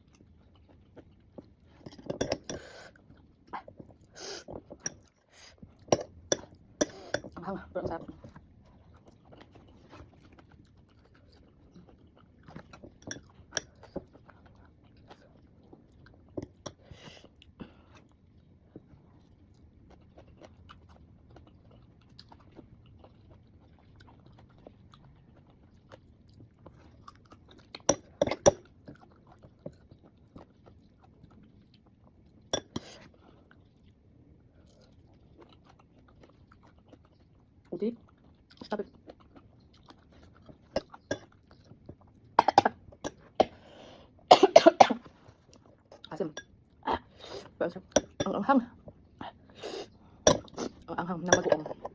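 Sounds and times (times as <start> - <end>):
chewing and crunching fruit: 0.0 - 44.3, 45.0 - 51.9.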